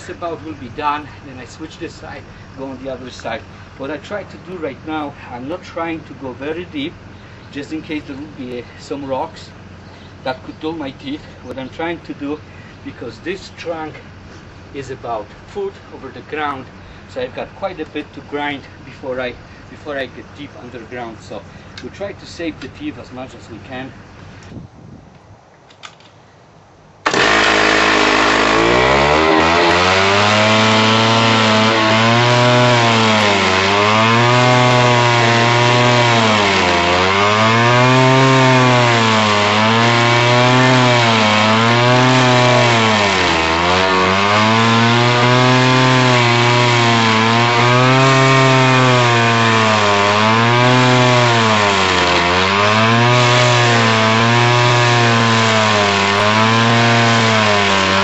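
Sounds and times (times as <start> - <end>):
stump grinder engine under load: 0.0 - 24.2, 27.0 - 58.0.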